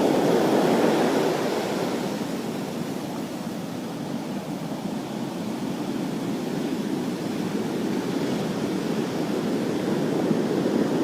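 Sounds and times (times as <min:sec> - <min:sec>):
storm surf breaking on shore: 0:00.0 - 0:11.0.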